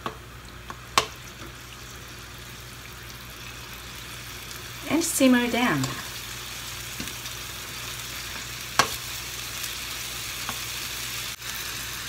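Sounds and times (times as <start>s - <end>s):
beef and onion sizzling in pan: 0.0s - 12.0s.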